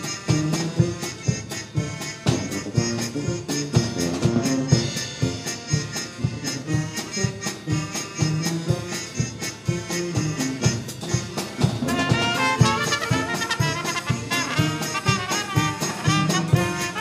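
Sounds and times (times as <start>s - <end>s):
polka band music: 0.0s - 17.0s.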